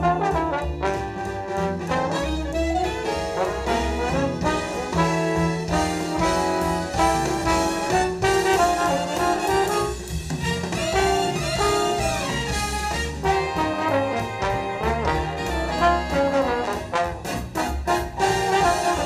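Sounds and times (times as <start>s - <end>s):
backing track with bass and drums: 0.0s - 19.0s
trombone playing jazz: 0.0s - 19.0s.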